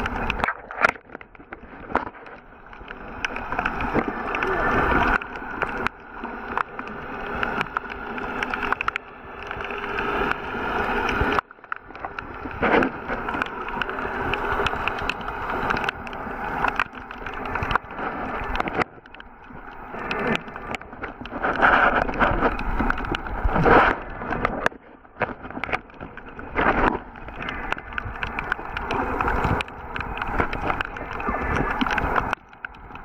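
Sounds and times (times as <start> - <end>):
underwater water rushing: 0.0 - 33.0
water splashing: 0.0 - 33.0.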